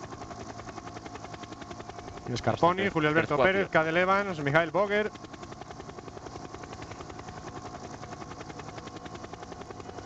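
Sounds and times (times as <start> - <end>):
faint steady whine: 0.0 - 10.0
helicopter rotor beating: 0.0 - 10.0.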